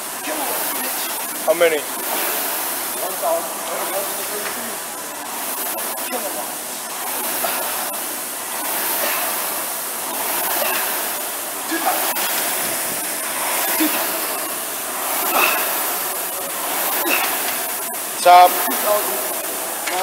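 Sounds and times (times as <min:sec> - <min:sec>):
rowing machine fan whooshing: 0:00.0 - 0:20.0.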